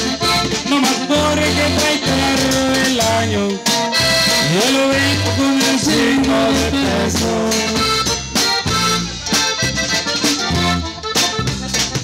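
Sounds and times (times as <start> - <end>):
button accordion melody: 0.0 - 12.0
live band playing: 0.0 - 12.0.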